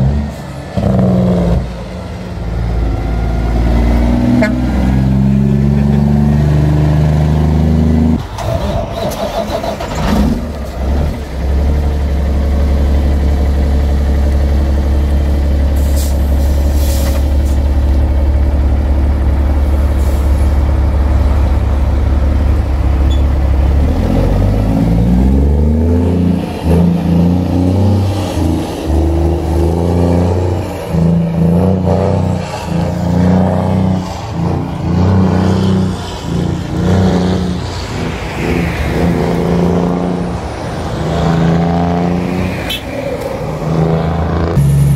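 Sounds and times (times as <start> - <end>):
diesel truck engine idling and revving: 0.0 - 44.9.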